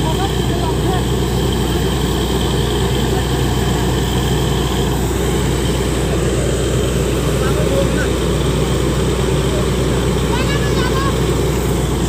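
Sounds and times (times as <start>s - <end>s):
drilling rig engine droning: 0.0s - 12.0s.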